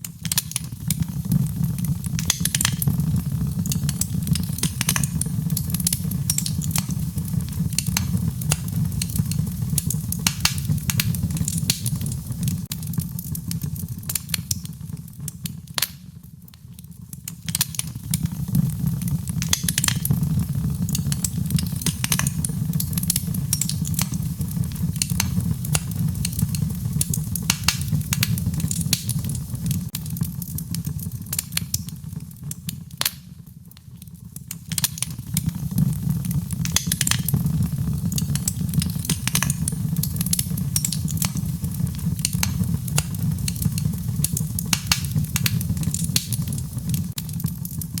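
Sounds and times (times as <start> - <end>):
fireplace fire crackling and popping: 0.0 - 48.0.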